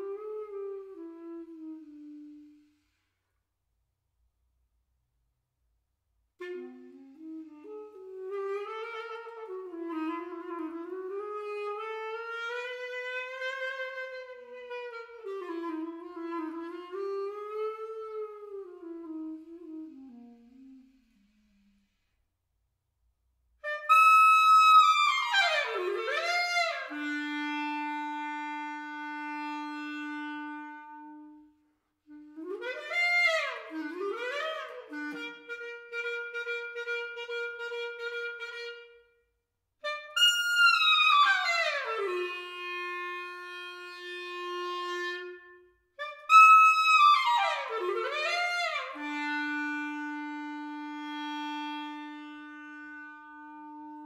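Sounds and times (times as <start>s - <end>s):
solo clarinet playing: 0.0s - 3.1s, 6.4s - 22.0s, 23.6s - 54.0s.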